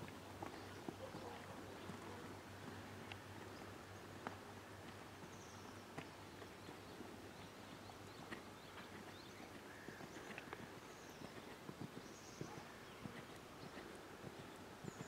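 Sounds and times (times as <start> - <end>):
hoofbeats on sand: 0.0 - 15.0.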